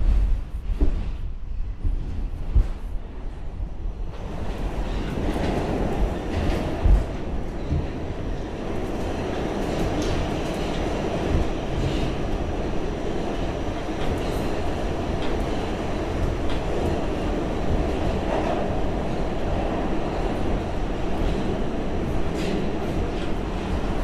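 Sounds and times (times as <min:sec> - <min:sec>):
subway car wheels rumbling: 0:00.0 - 0:24.0.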